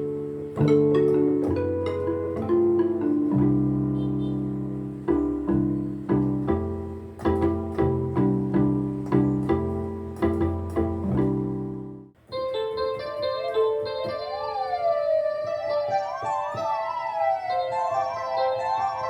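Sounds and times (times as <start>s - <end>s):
keyboard chords over bass line: 0.0s - 19.0s.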